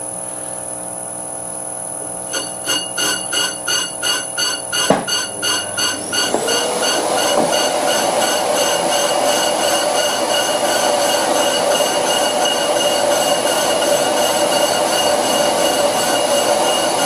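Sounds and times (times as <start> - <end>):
lathe motor whine: 2.2 - 17.0
lathe cutting metal disc: 2.3 - 17.0.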